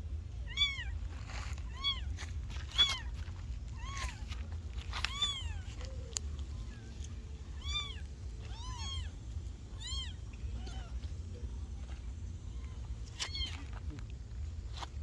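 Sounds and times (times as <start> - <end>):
steady low hum: 0.0 - 15.0
kittens meowing: 0.4 - 11.1, 12.5 - 13.8.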